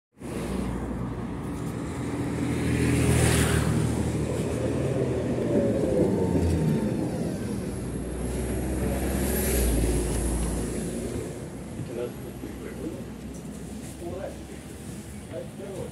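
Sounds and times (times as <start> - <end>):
tram whine: 0.2 - 15.6
tram drive hum: 0.2 - 15.9
tram rumbling on rails: 0.2 - 15.9.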